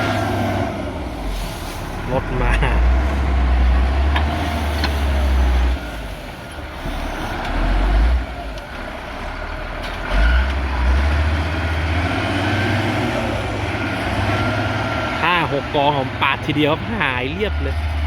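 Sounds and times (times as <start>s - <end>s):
motor grader diesel engine rumble: 0.0s - 18.0s.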